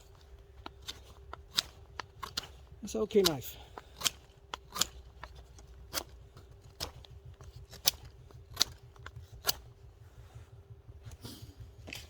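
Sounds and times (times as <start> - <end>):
knife whittling wood: 0.0 - 9.8.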